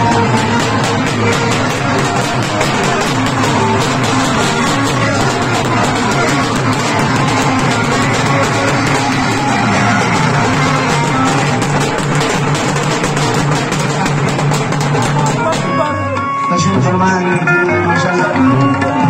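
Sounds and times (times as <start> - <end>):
loud music with fast beat: 0.0 - 17.2.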